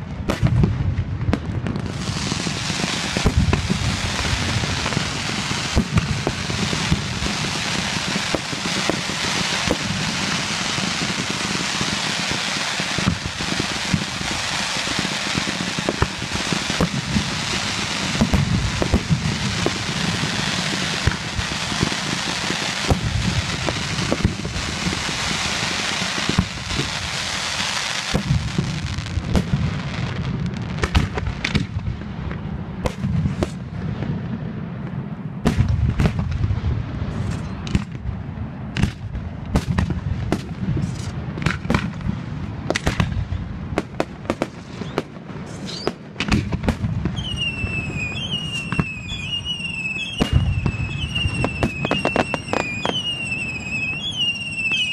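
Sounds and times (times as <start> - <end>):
whistling firework: 0.0 - 34.4, 35.4 - 54.9
fireworks crackling: 0.0 - 54.9
firework shells booming: 0.2 - 34.3, 35.4 - 54.9.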